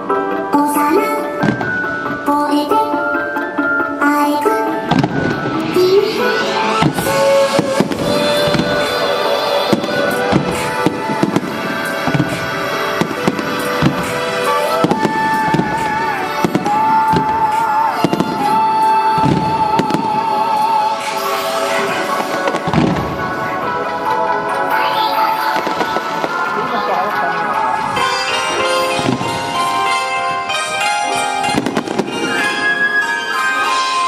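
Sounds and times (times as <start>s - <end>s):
show music: 0.0s - 34.0s
fireworks bursting: 1.0s - 34.0s.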